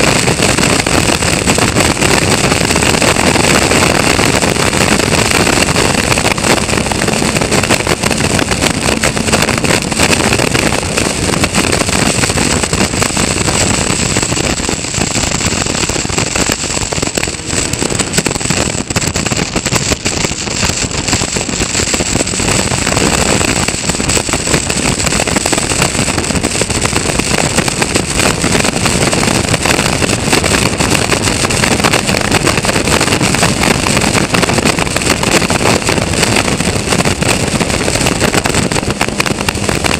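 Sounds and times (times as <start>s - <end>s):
race car engine running hard: 0.0s - 39.9s
wind rush: 0.0s - 39.9s.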